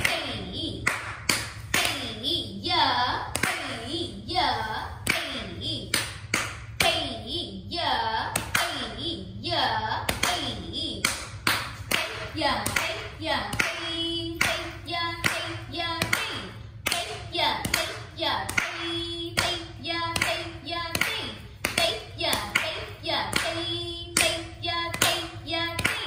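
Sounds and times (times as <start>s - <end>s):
person chanting rhythm syllables: 0.0s - 26.0s.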